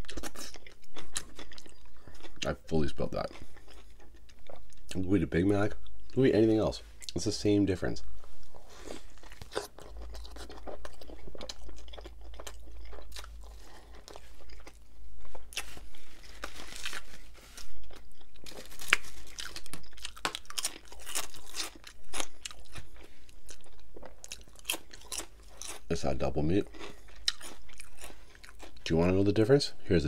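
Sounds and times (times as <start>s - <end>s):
chewing a sandwich: 0.0s - 5.0s, 8.4s - 28.9s.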